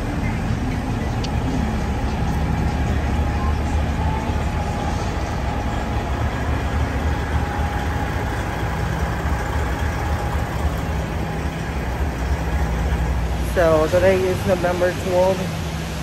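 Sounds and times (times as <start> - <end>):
faint steady hum: 0.0 - 16.0
traffic rumble: 0.0 - 16.0.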